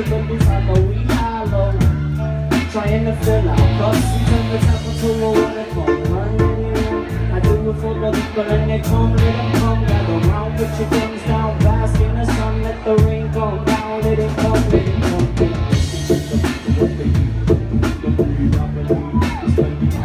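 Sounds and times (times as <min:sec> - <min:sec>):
bass: 0:00.0 - 0:20.0
drum kit beat: 0:00.0 - 0:20.0
keyboard: 0:00.0 - 0:20.0.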